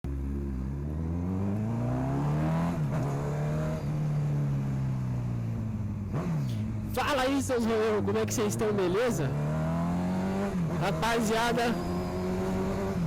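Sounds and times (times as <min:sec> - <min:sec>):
motorcycle engine accelerating: 0:00.1 - 0:07.0, 0:07.8 - 0:13.0.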